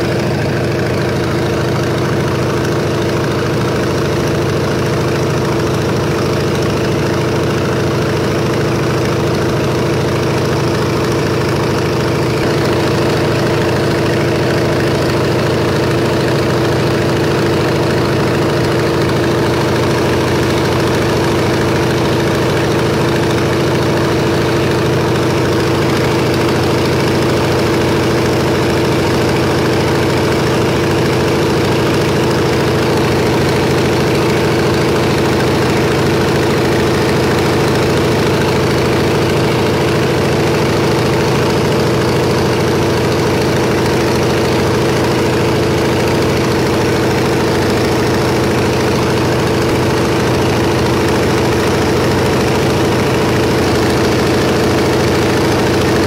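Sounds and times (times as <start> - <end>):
propeller aircraft engine droning: 0.0 - 56.0.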